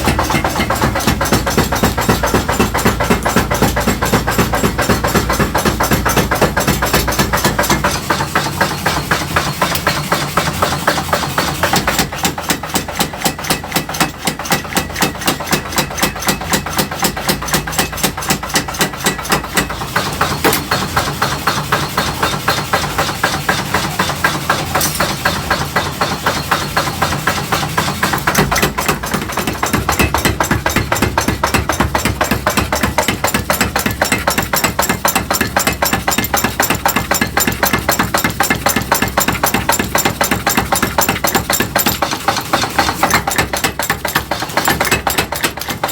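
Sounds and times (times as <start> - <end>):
rapid hammering on metal: 0.0 - 45.9.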